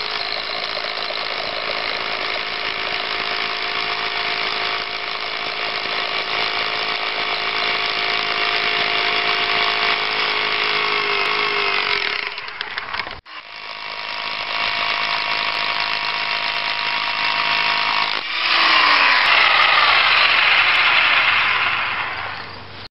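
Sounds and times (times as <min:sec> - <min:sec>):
rotary hammer running: 0:00.0 - 0:22.7.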